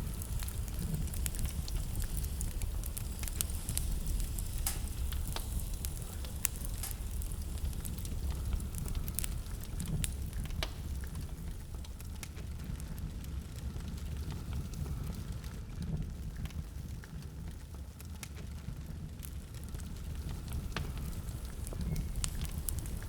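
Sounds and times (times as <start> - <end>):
low rumble of wind: 0.0 - 23.0
wood fire crackling and popping: 0.0 - 23.0.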